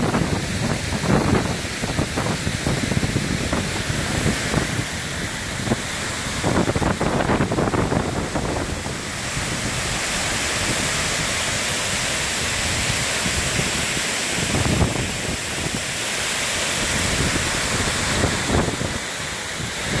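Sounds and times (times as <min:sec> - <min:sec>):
wind buffeting microphone: 0:00.0 - 0:15.9, 0:16.8 - 0:20.0
water rushing over dam spillway: 0:00.0 - 0:20.0.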